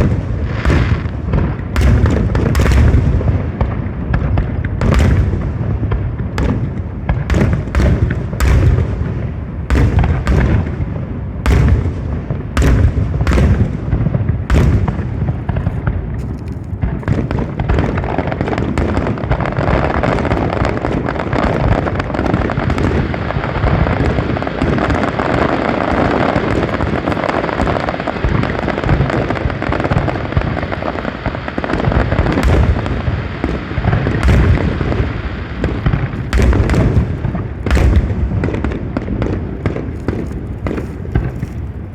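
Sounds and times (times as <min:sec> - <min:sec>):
fireworks bangs and booms: 0:00.0 - 0:41.9.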